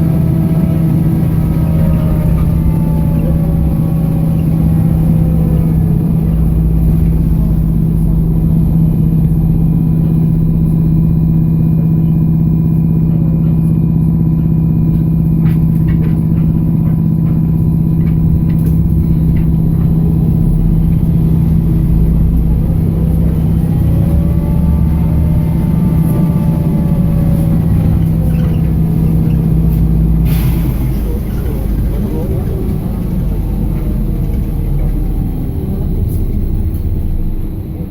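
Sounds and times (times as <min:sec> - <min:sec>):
road rumble: 0:00.0 - 0:37.9.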